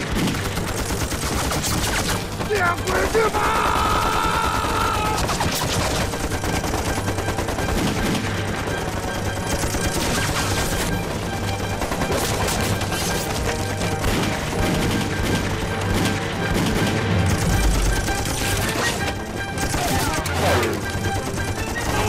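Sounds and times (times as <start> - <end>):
rapid machine-gun and rifle fire: 0.0 - 22.0.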